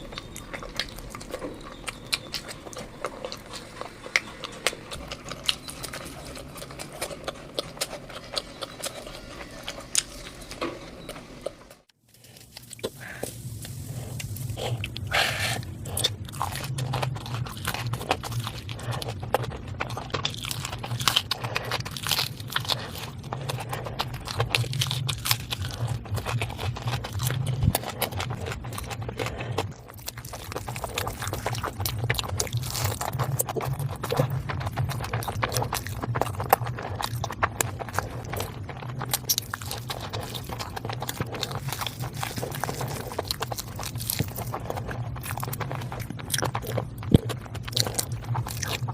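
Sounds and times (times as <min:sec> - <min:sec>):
steady low hum: 0:00.0 - 0:48.9
wet chewing and crunching: 0:00.0 - 0:48.9.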